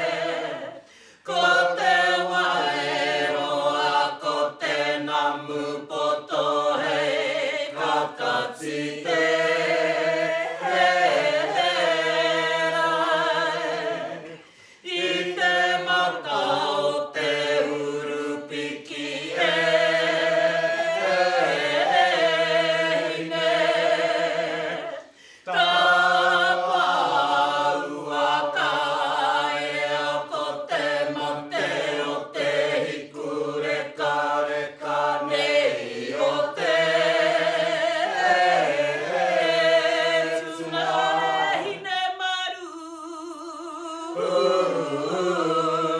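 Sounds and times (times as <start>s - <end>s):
group chanting in unison: 0.0s - 42.2s, 44.1s - 45.9s.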